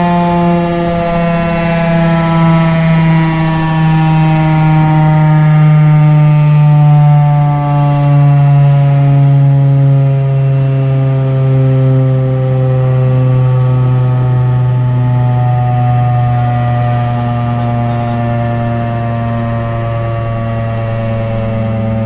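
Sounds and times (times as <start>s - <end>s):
warning siren winding down: 0.0s - 22.0s.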